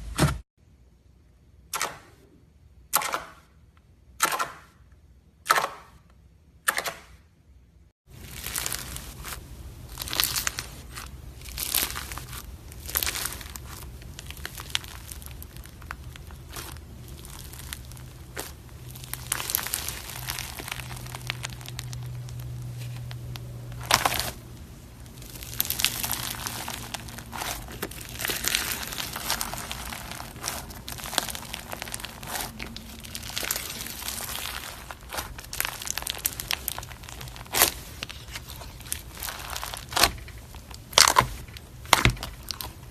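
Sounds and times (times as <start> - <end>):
slime crackling and popping: 8.1 - 42.9.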